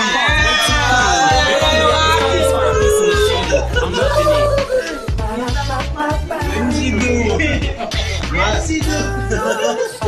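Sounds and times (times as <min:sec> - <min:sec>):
heavy bass line: 0:00.0 - 0:09.4
music with vocals: 0:00.0 - 0:10.0.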